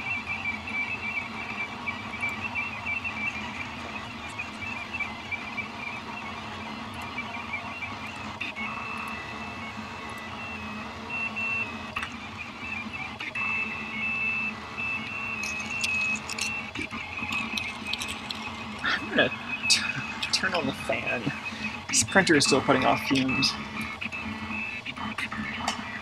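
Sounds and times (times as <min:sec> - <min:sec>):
stepper motors singing: 0:00.0 - 0:26.0.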